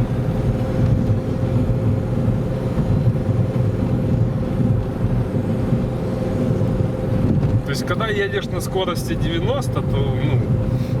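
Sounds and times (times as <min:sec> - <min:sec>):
low engine drone: 0:00.0 - 0:11.0
road rumble: 0:00.0 - 0:11.0.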